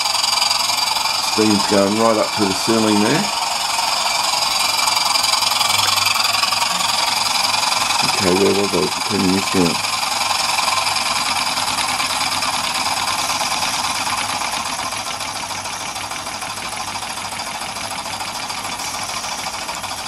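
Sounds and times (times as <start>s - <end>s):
model steam engine chuffing: 0.0s - 20.0s
steam hissing: 0.0s - 20.0s.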